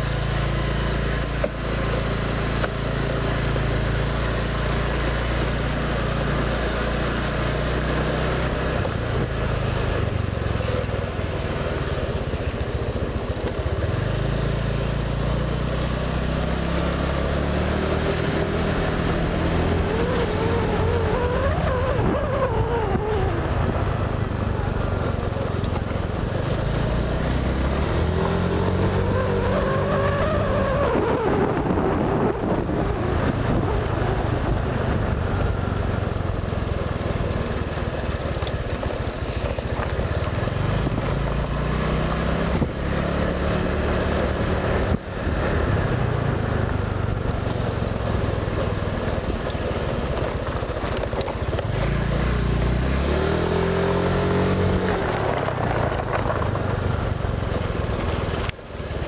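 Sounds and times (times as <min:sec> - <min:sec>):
scooter engine accelerating: 0:00.0 - 0:59.0.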